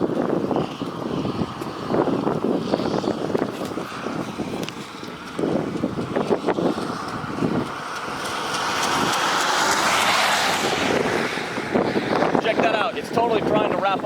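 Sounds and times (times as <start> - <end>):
car low rumbling: 0.0 - 14.0.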